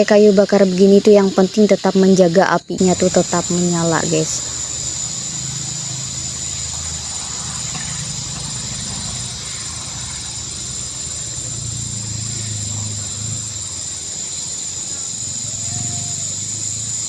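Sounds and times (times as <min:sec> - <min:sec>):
fast pulsing insect trill: 0:00.0 - 0:17.0
insect chorus trilling: 0:00.0 - 0:17.0.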